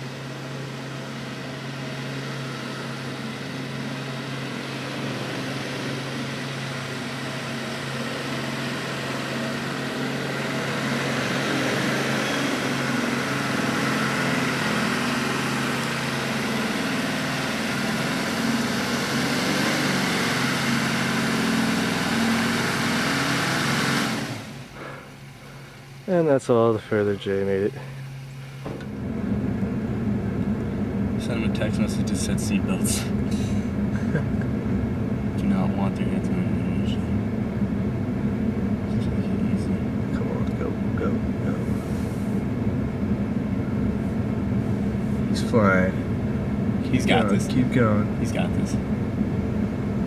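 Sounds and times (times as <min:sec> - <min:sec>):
engine idling hum: 0:00.0 - 0:50.0
truck engine working hard: 0:00.0 - 0:50.0.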